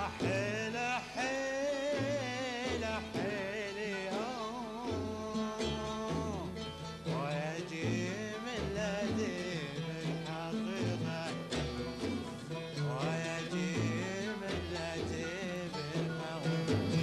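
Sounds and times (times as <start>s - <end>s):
man singing ornamented melody: 0.0s - 17.0s
oud accompaniment: 0.0s - 17.0s.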